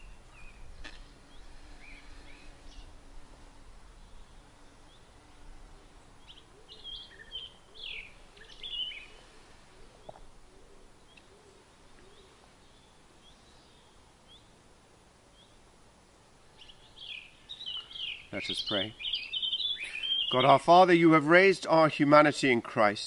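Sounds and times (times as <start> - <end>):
faint songbirds chirping: 0.0 - 23.0.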